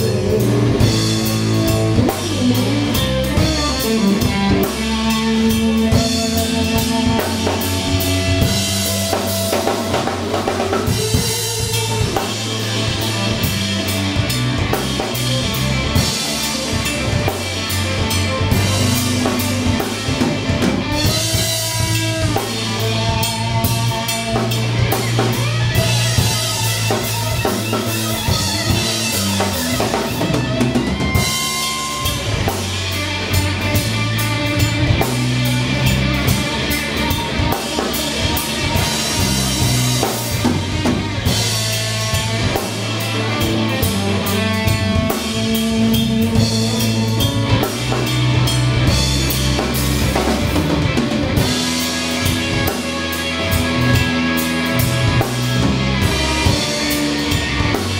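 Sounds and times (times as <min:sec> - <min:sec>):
drum kit: 0:00.0 - 0:57.9
electric bass: 0:00.0 - 0:57.9
electric guitar: 0:00.0 - 0:57.9.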